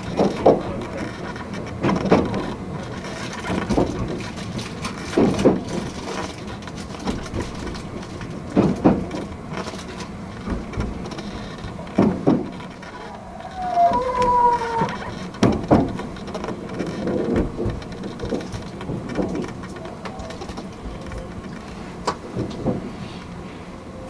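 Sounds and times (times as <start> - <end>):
train wheels clacking over rail joints: 0.0 - 23.3
train running rumble: 0.0 - 24.0.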